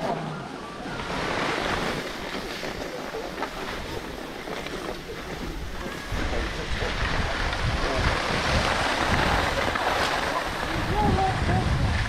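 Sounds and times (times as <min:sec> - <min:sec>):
skis sliding over snow: 0:00.0 - 0:12.0
wind noise on microphone: 0:00.8 - 0:12.0.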